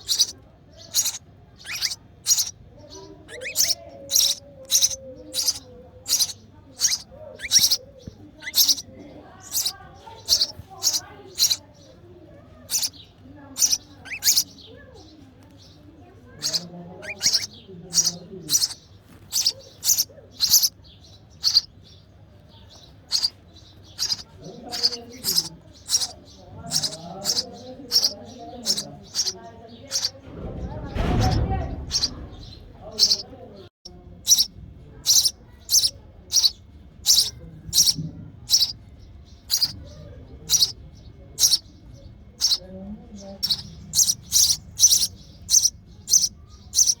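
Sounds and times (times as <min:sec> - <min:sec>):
baby birds chirping: 0:00.0 - 0:47.0.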